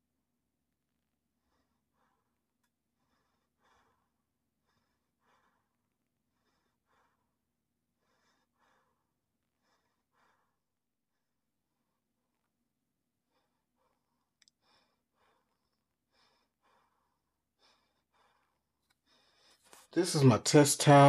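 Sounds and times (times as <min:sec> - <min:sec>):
faint breathing: 0:01.4 - 0:12.5, 0:13.2 - 0:20.0.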